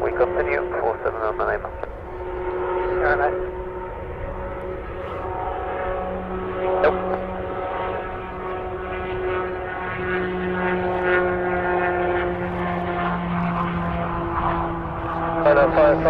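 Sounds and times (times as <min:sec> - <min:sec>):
aircraft engines droning: 0:00.0 - 0:16.0.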